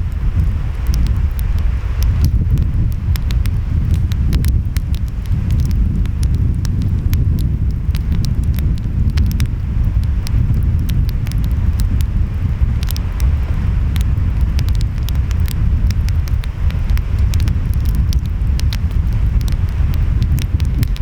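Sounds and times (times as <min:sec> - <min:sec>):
wind: 0:00.0 - 0:21.0
wood fire crackling: 0:00.0 - 0:21.0.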